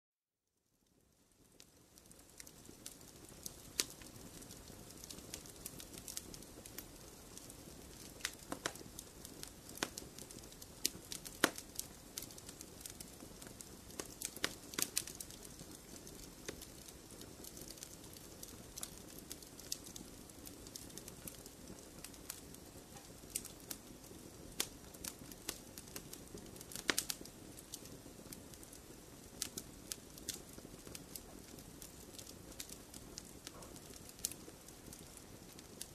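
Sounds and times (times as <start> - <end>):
low hiss of fire: 0.8 - 35.9
logs crackling in fireplace: 0.9 - 35.9.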